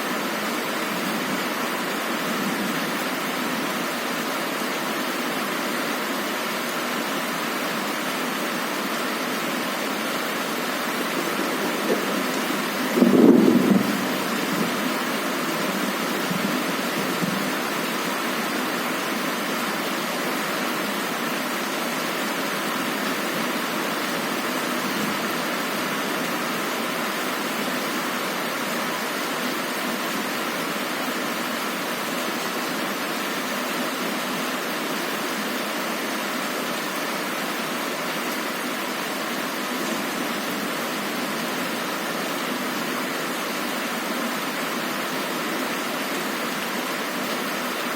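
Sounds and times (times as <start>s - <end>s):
heavy rain on a window: 0.0s - 47.9s.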